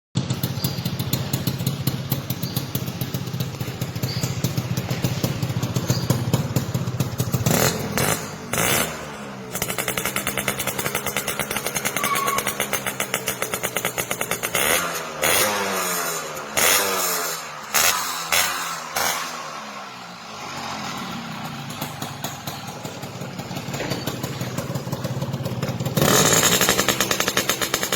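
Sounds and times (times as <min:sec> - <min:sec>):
two-stroke motorcycle engine revving: 0:00.2 - 0:27.9.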